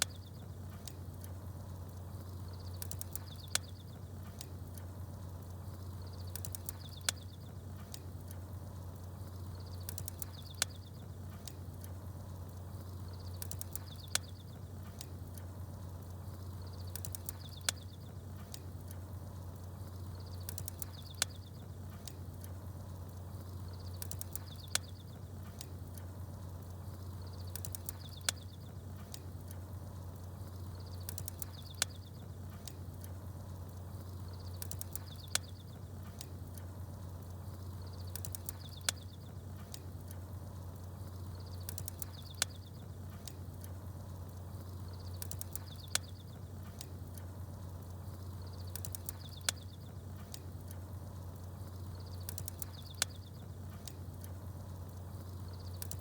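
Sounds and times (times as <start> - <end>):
campfire crackling: 0.0 - 56.0
small birds chirping: 0.0 - 56.0.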